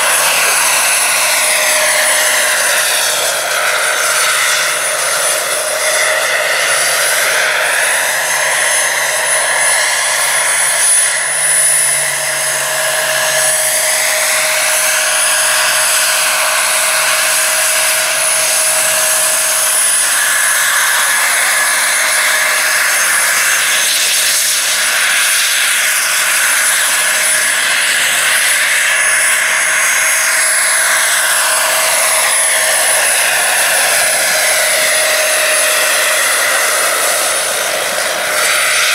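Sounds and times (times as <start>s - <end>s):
model helicopter turbine whine: 0.0s - 38.9s.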